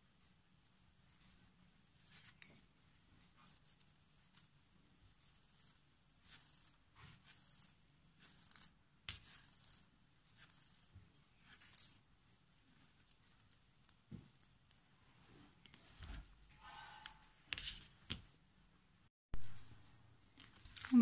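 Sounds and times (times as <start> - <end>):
rustling and scratching of threads: 0.0 - 18.4, 20.3 - 21.0.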